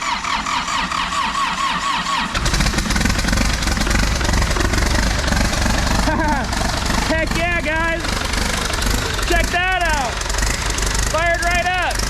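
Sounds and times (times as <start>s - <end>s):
diesel engine cranking: 0.0s - 12.0s
diesel engine running: 0.0s - 12.0s.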